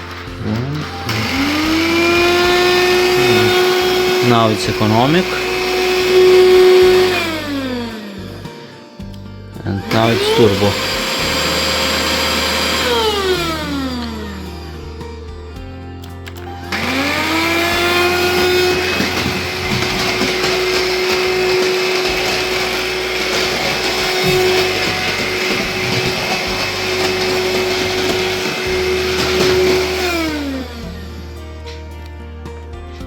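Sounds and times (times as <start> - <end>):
vacuum cleaner motor whining: 0.0 - 32.3.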